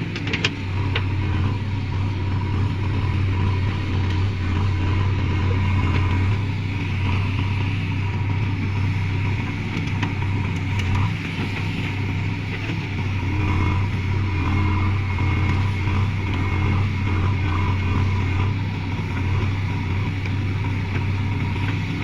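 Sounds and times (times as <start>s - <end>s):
heavy diesel engine humming: 0.0s - 22.0s.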